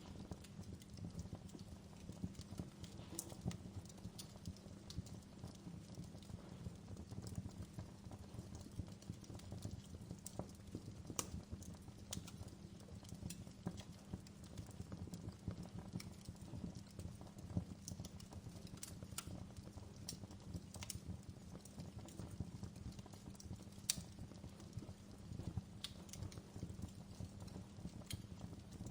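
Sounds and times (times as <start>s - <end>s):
low rumble of burning fire: 0.0s - 28.9s
wood fire snaps and pops: 0.0s - 28.9s.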